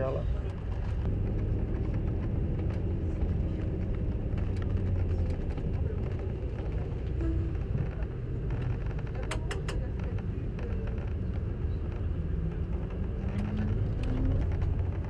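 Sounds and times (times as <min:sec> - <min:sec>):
vehicle driving low rumble: 0:00.0 - 0:15.0.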